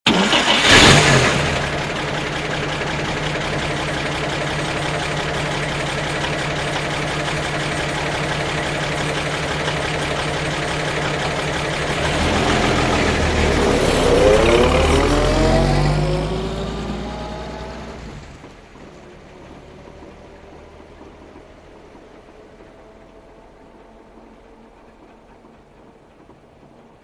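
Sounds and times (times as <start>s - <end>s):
car engine starting and idling: 0.0s - 27.0s
car engine revving: 0.1s - 26.0s.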